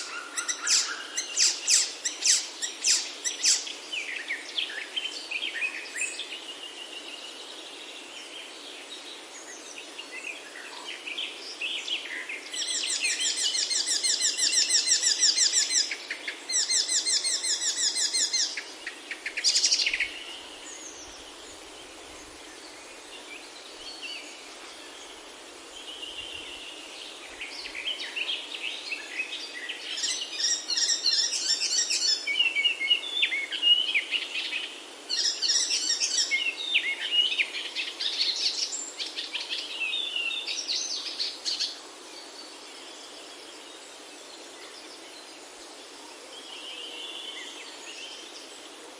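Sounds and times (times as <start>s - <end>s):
birds singing and chirping: 0.0s - 7.6s, 8.4s - 25.2s, 25.8s - 43.8s
steady soft hiss: 0.0s - 48.9s.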